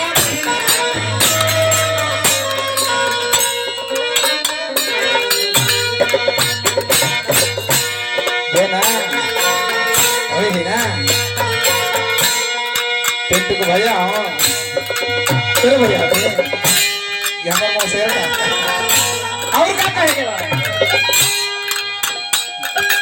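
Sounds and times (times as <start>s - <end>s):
hand drum strokes: 0.0s - 23.0s
wavering melody line: 0.0s - 23.0s.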